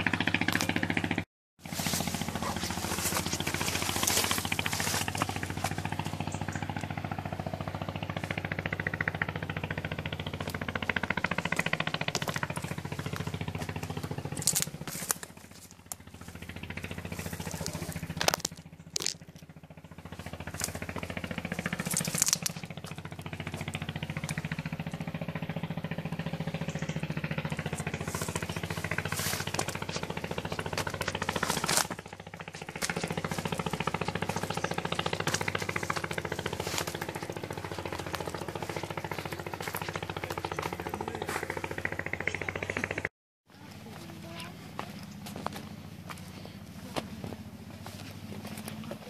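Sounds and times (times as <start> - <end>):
small engine pulsing: 0.0 - 49.0.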